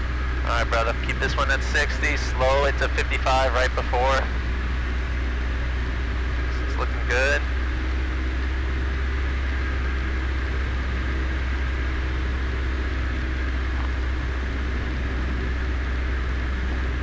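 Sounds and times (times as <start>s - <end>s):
airplane engine and propeller droning: 0.0s - 17.0s.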